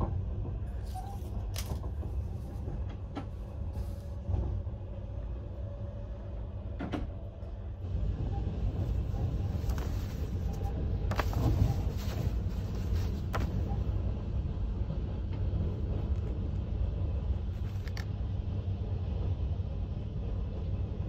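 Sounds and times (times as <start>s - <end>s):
low rumble of moving train: 0.0s - 21.0s.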